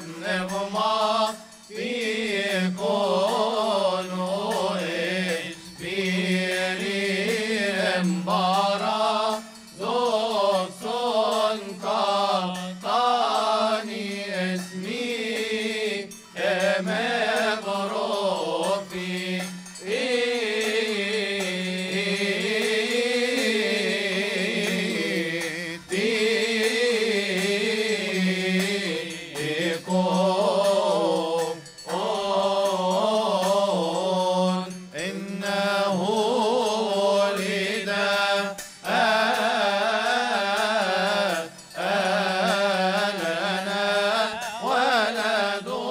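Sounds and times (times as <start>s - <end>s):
hand cymbals ringing: 0.0s - 45.9s
male choir chanting a hymn: 0.0s - 45.9s.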